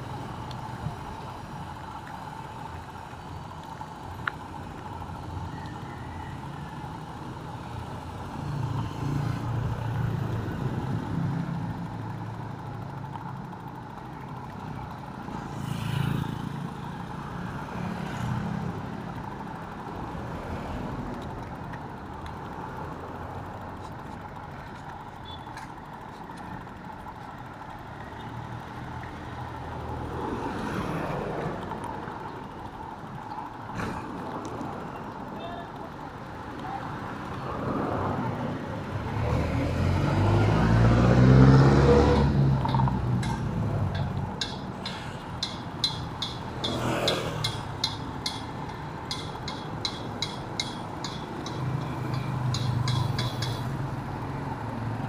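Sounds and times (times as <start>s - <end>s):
vehicles passing close by: 0.0s - 55.0s.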